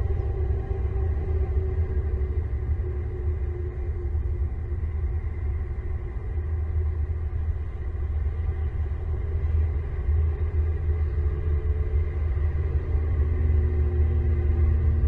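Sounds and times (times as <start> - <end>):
faint steady hum: 0.0 - 15.0
steady low rumble: 0.0 - 15.0.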